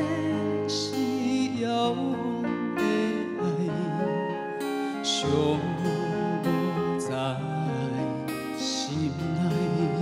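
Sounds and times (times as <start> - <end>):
band accompaniment with guitar: 0.0 - 10.0
man singing a ballad: 0.0 - 10.0.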